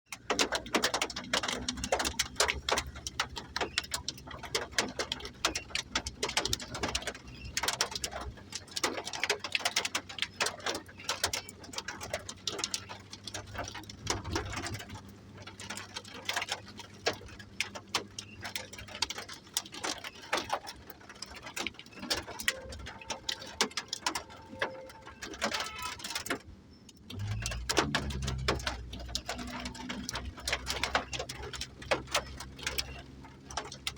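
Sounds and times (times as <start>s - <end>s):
heavy raindrops on hard surface: 0.1s - 33.9s.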